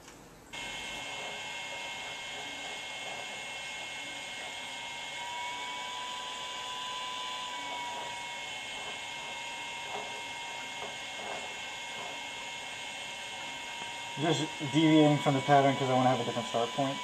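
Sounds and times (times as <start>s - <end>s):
rework station whirring: 0.0s - 17.0s.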